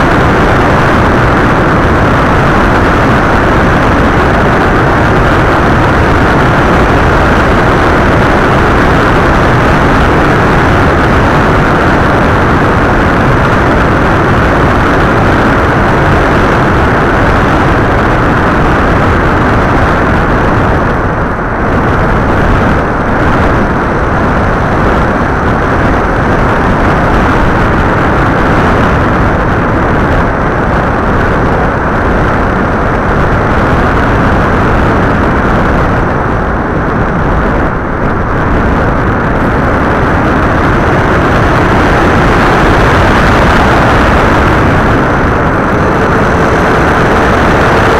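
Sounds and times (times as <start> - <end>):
motor noise: 0.0 - 47.9
wind rushing: 0.0 - 47.9.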